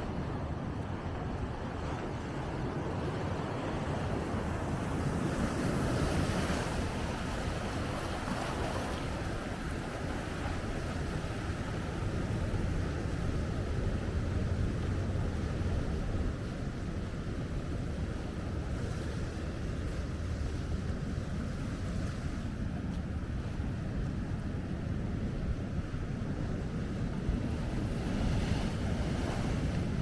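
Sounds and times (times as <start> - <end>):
ocean waves breaking: 0.0 - 30.0
wind buffeting microphone: 0.0 - 30.0.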